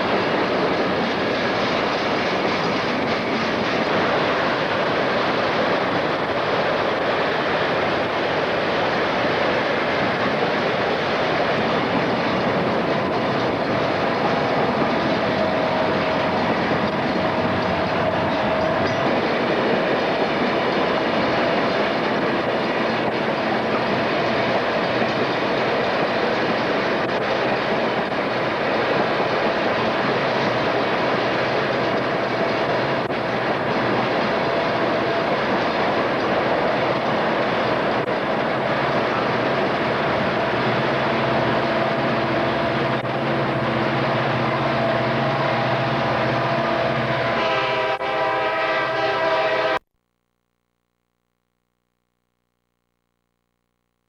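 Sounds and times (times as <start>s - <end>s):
train wheels clattering on rails: 0.0s - 48.5s
freight train rumbling past: 0.0s - 49.8s.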